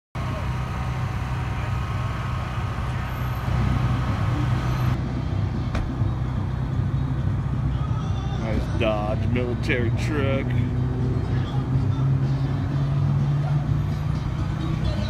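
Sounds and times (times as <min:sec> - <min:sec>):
engine idling: 0:00.2 - 0:13.2.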